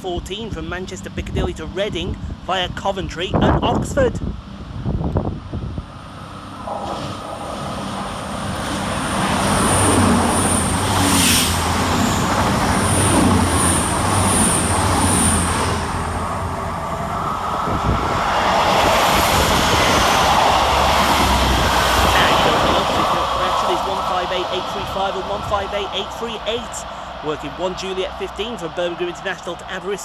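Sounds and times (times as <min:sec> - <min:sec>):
diesel train passing: 0:04.2 - 0:30.0
wheel and rail noise: 0:05.9 - 0:30.0.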